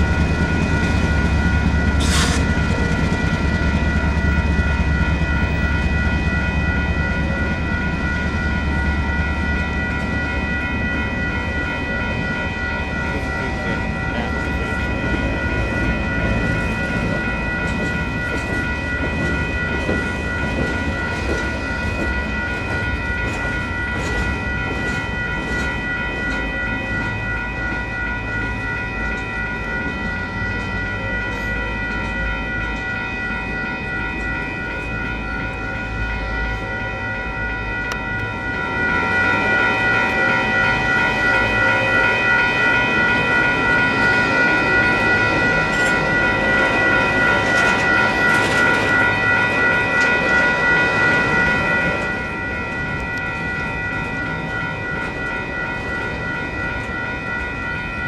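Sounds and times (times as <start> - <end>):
electronic crossing bells ringing: 0.0 - 58.0
freight train rumble and rattle: 0.0 - 58.0.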